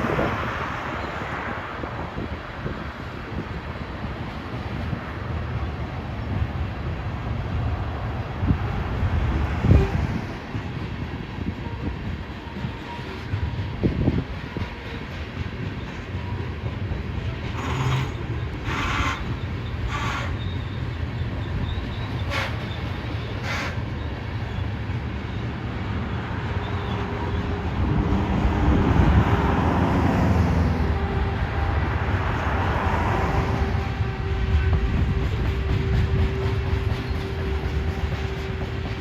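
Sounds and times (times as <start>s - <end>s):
train rolling by: 0.0s - 39.0s.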